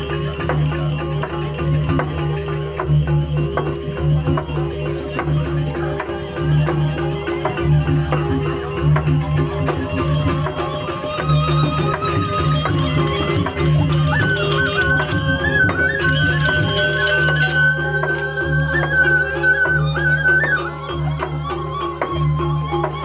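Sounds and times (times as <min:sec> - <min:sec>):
gamelan low interlocking strokes: 0:00.0 - 0:23.0
high held melody: 0:00.0 - 0:23.0.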